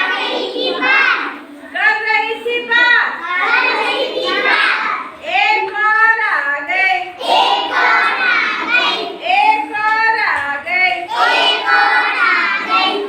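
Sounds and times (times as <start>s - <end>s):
children chanting a rhyme: 0.0s - 13.0s.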